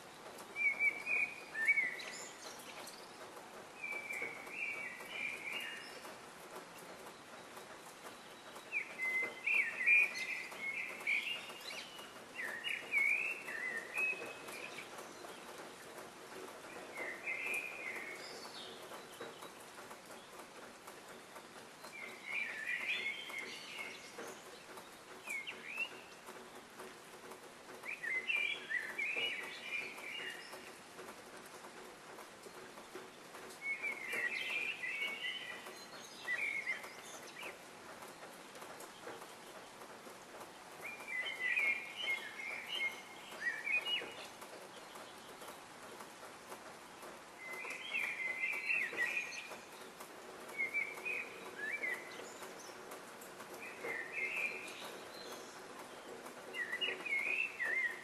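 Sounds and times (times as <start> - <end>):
small songbirds chirping: 0.0 - 58.0
steady background hiss: 0.0 - 58.0.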